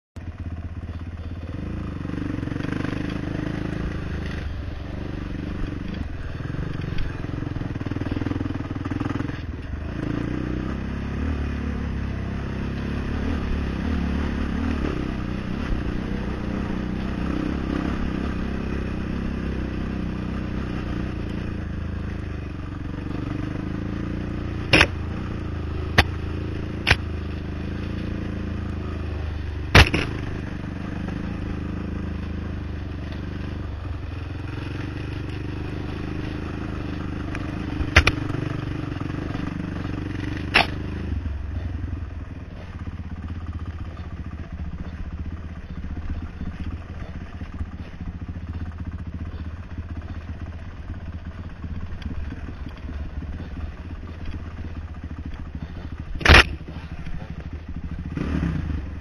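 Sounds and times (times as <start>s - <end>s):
quad bike engine running: 0.2s - 59.0s.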